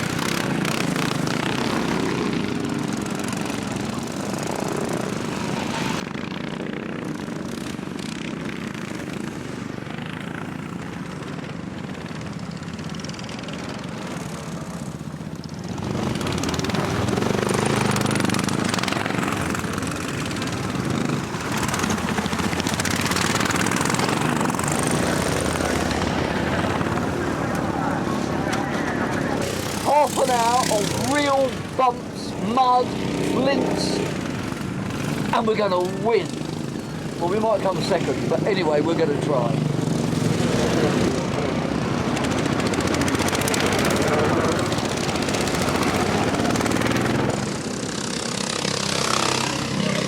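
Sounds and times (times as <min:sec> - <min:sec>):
racing lawnmower engines: 0:00.0 - 0:50.0.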